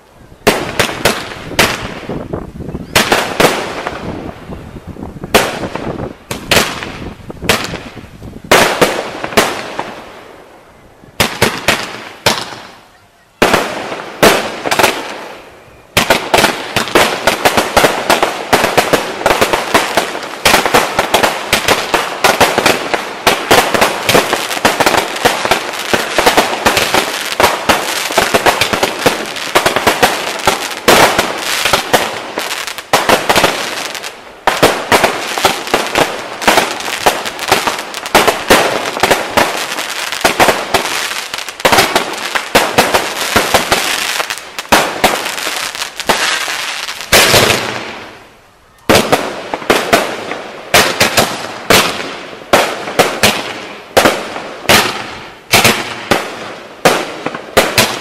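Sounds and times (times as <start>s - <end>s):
fireworks bangs and crackle: 0.0s - 48.2s, 48.8s - 58.0s.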